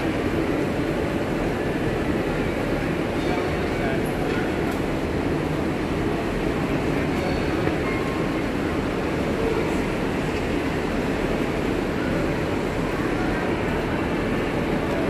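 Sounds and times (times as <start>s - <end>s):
station hubbub: 0.0s - 15.0s
train engine rumbling: 0.0s - 15.0s.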